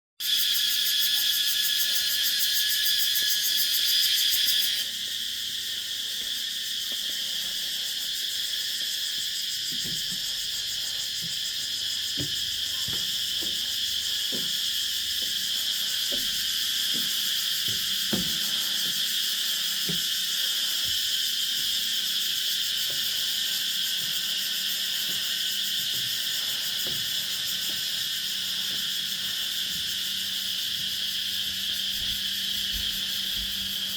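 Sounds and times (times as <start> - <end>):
insect chorus: 0.2 - 33.9
pulsing high insect buzz: 0.2 - 33.9.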